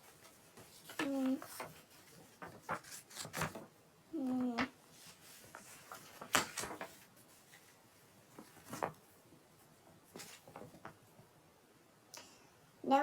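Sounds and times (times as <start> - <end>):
book pages rustling: 0.0 - 11.1.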